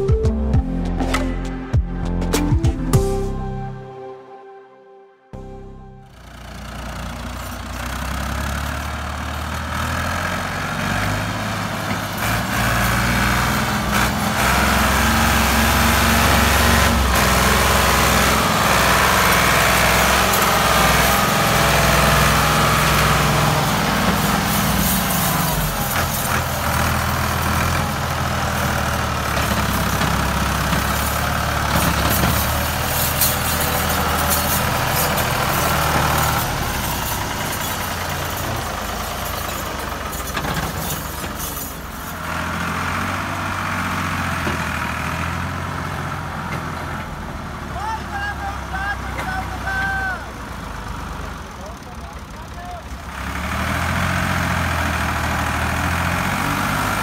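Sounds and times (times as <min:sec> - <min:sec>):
tractor diesel engine labouring: 0:05.4 - 0:57.0.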